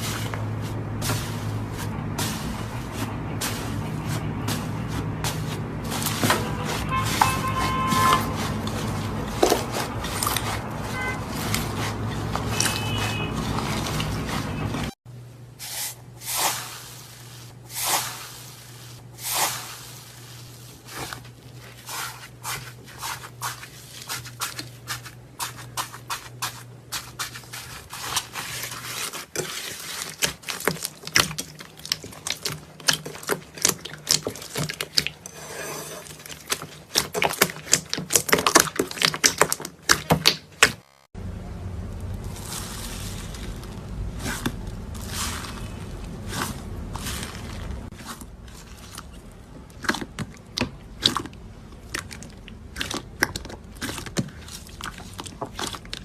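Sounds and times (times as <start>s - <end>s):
crunchy slime crackling: 0.0s - 15.0s, 16.2s - 35.3s, 36.0s - 41.0s, 42.0s - 56.0s.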